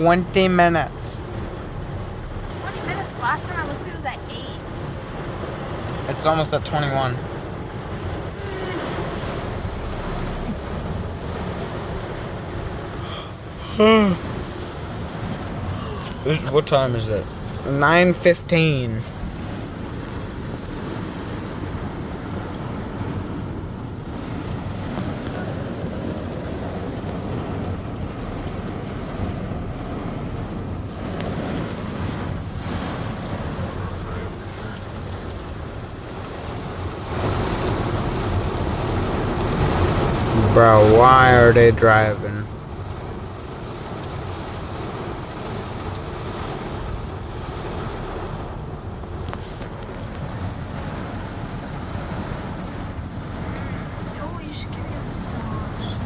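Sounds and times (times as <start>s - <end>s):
wind rumbling on microphone: 0.0s - 17.8s, 18.5s - 56.0s
rain: 0.0s - 56.0s
wind: 0.0s - 56.0s.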